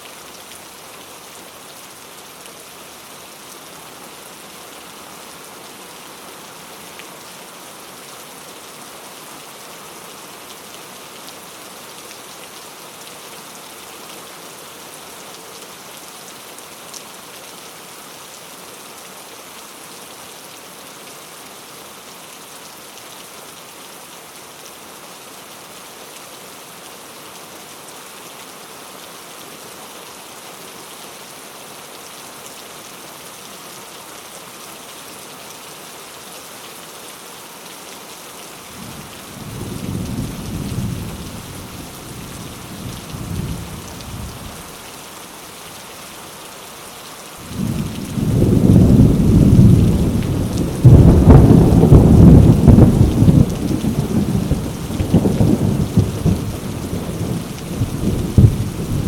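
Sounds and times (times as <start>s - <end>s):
heavy rain on leaves: 0.0s - 59.0s.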